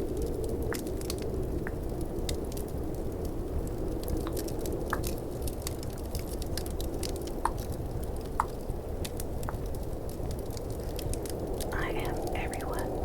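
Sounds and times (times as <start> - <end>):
fireplace crackle: 0.0 - 13.0
snowstorm wind rush: 0.0 - 13.0.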